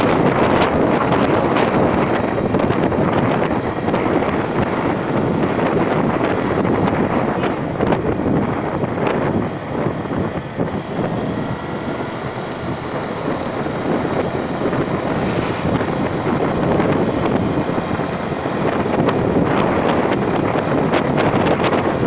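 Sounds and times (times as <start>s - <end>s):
vehicle noise: 0.0s - 22.0s
wind buffeting microphone: 0.0s - 22.0s.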